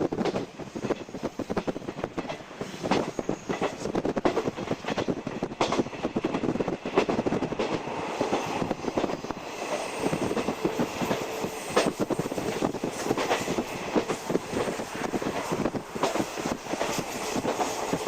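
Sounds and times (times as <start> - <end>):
train rumble inside coach: 0.0 - 18.0.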